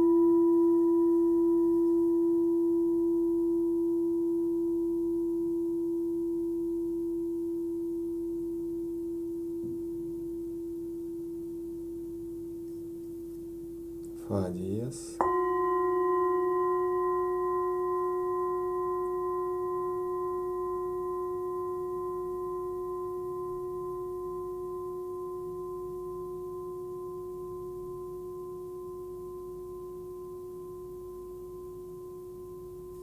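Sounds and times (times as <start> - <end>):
singing bowl ringing: 0.0 - 33.0.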